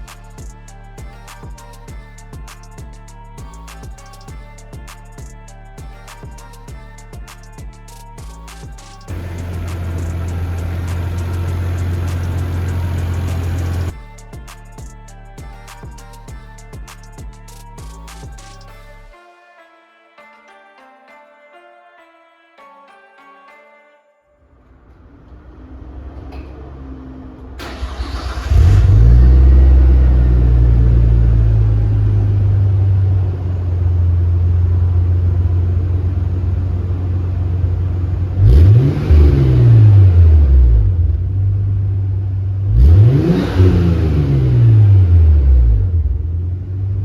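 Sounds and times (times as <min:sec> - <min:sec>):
car engine idling and revving: 0:00.0 - 0:18.7, 0:25.0 - 0:47.0.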